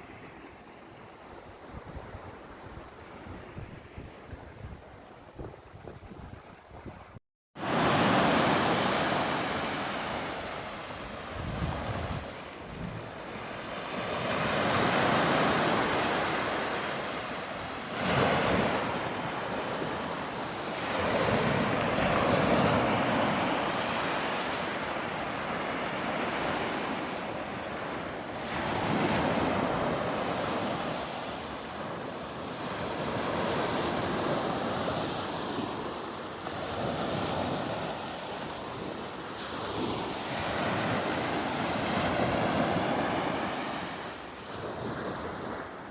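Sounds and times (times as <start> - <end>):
sea waves breaking ashore: 0.0 - 45.9.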